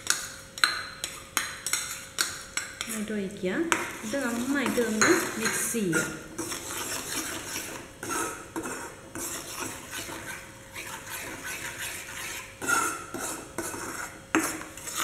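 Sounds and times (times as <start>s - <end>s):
metal spoon scraping a pan: 0.0s - 3.1s, 3.7s - 15.0s.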